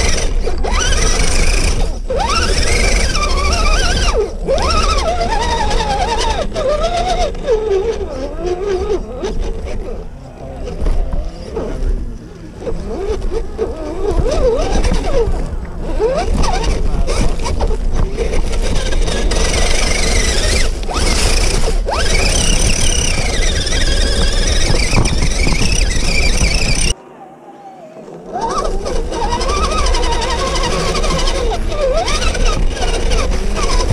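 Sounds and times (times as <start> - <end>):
rc car motor whining: 0.0 - 27.0, 28.0 - 33.9.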